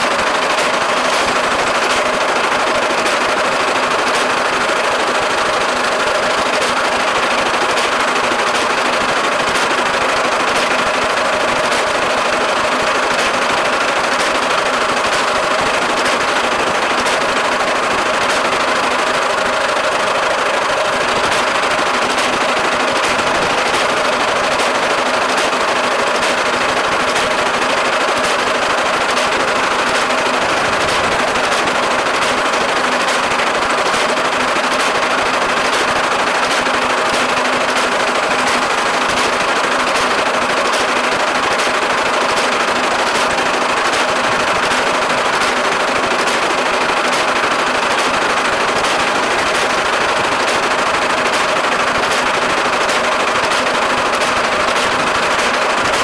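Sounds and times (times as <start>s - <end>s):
baler mechanical clatter: 0.0s - 56.0s.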